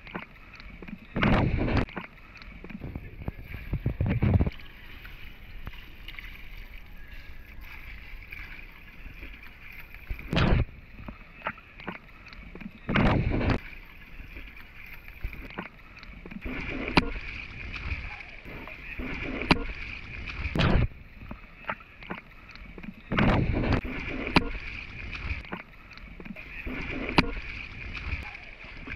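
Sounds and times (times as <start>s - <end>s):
water lapping and sloshing: 0.0s - 28.9s
water splashes: 0.0s - 28.9s.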